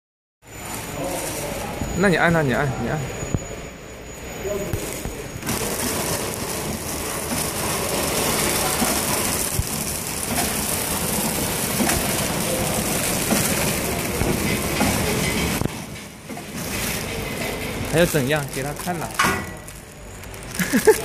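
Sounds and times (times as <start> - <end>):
packaging machine clatter: 0.6 - 1.9, 4.6 - 21.0.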